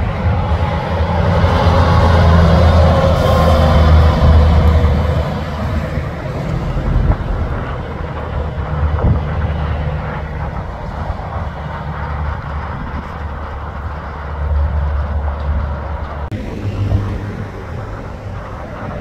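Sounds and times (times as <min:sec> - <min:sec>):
diesel truck engine driving by: 0:00.0 - 0:19.0
tyre and road noise: 0:00.0 - 0:19.0.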